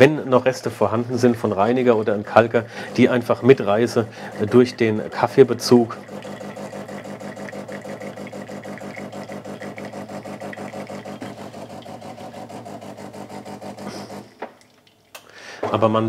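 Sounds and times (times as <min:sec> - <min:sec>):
espresso machine pump humming: 0:01.1 - 0:14.7.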